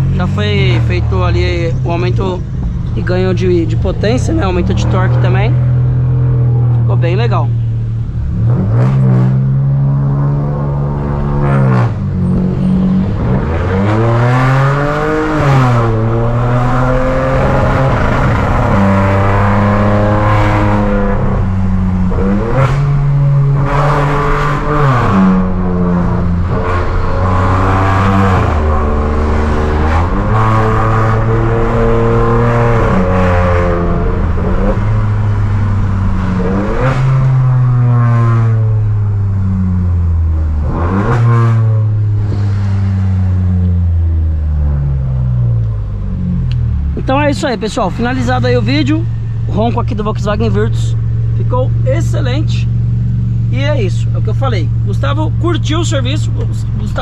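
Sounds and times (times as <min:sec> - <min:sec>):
car exhaust engine revving: 0:00.0 - 0:57.0.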